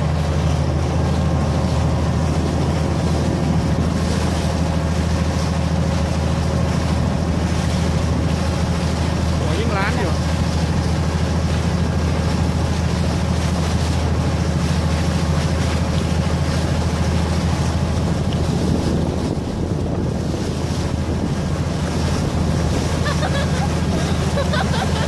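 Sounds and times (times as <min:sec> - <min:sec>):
ferry engine drone: 0:00.0 - 0:25.0
water rushing in wake: 0:00.0 - 0:25.0
wind buffeting microphone: 0:00.0 - 0:25.0.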